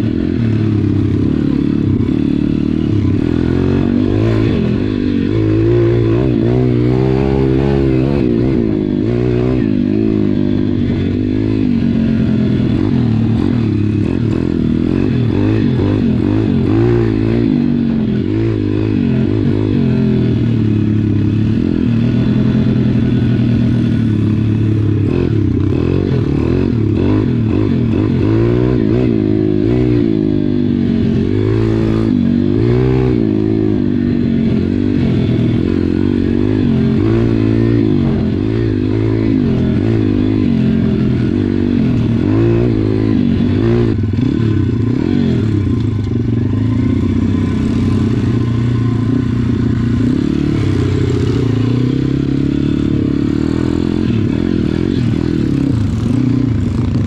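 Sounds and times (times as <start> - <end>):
small motorbike engine revving: 0.0 - 57.0.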